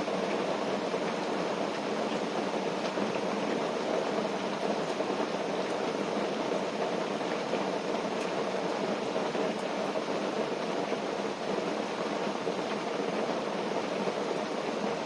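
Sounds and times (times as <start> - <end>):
rain on tent fabric: 0.0 - 15.0.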